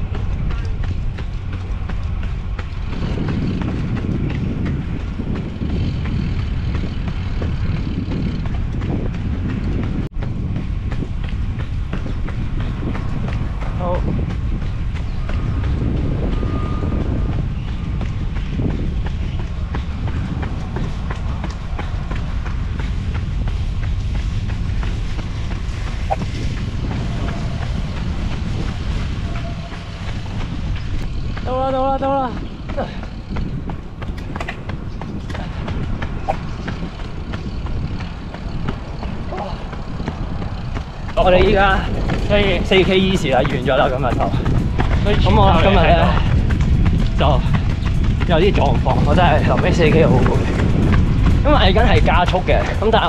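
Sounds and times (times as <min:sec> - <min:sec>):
running footsteps on wet pavement: 0:00.0 - 0:53.0
wind buffeting microphone: 0:00.0 - 0:53.0.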